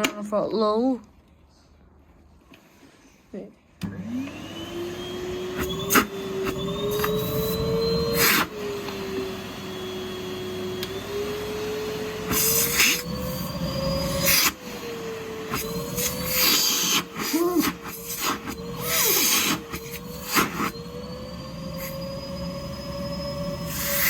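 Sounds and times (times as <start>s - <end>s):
vacuum cleaner motor whine: 3.8s - 24.0s.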